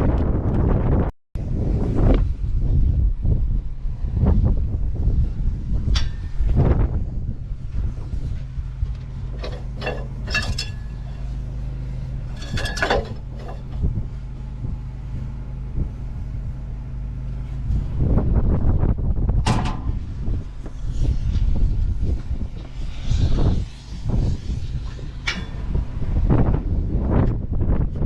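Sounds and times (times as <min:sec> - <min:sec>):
machinery engine humming: 0:00.2 - 0:28.0.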